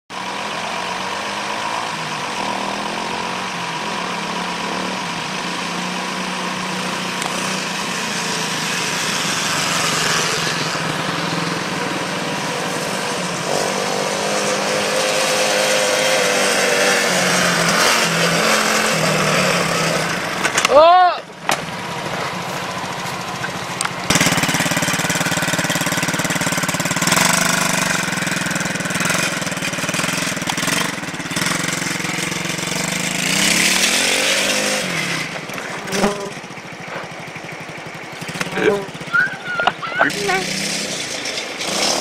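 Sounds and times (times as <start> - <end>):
quad bike engine running: 0.1 - 42.0.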